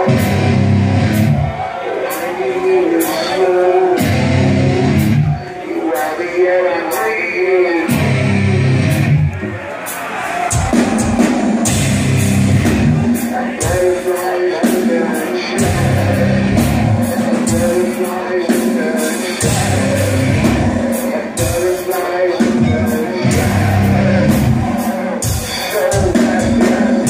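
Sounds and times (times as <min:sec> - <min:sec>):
metal band playing live: 0:00.0 - 0:05.5, 0:07.8 - 0:27.0.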